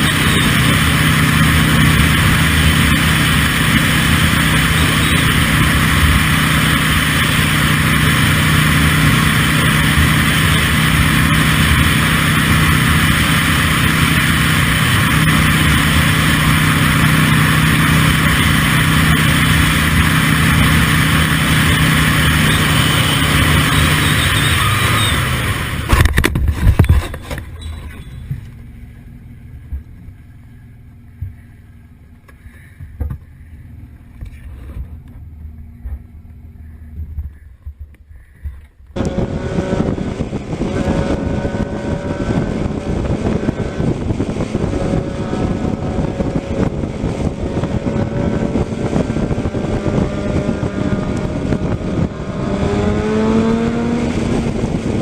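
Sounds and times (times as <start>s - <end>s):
car engine running: 0.0s - 55.0s
vehicle driving noise: 0.0s - 55.0s.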